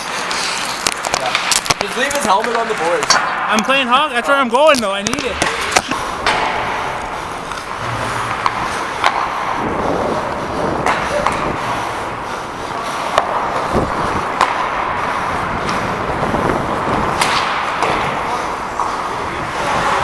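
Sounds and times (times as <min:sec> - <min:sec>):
ice skates scraping on ice: 0:00.0 - 0:03.4, 0:04.8 - 0:20.0
hockey sticks striking puck: 0:00.0 - 0:20.0.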